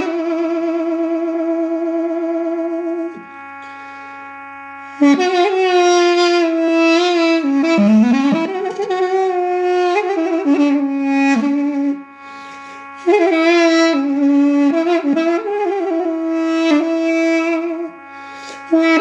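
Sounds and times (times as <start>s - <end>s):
duduk playing slow melody: 0.0s - 19.0s.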